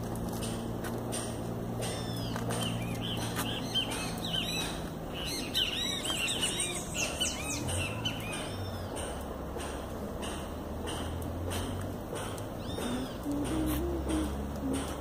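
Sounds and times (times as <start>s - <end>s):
low steady hum: 0.0s - 15.0s
small birds chirping: 1.8s - 15.0s.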